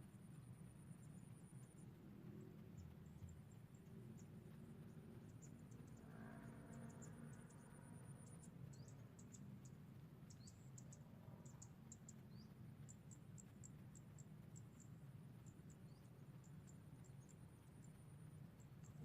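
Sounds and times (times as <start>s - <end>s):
insects chirping: 0.3s - 19.0s.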